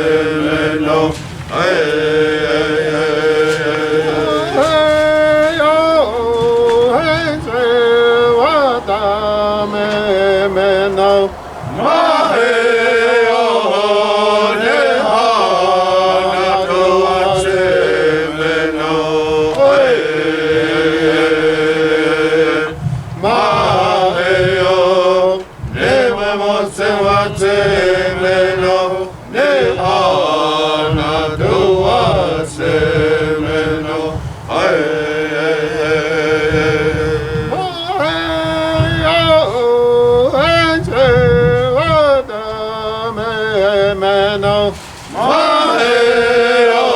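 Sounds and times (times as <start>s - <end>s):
person chanting a prayer song: 0.0s - 46.9s.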